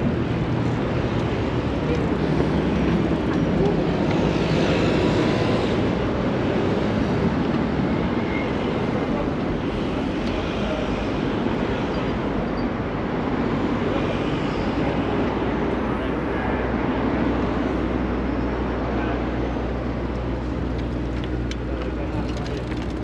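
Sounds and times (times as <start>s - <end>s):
city traffic rumble: 0.0s - 23.0s.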